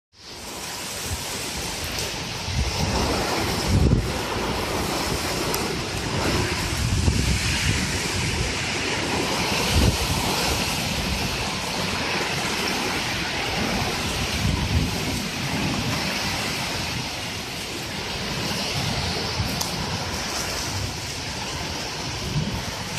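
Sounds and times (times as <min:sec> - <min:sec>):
heavy rain pouring: 0:00.1 - 0:22.9
wind buffeting microphone: 0:00.2 - 0:22.9.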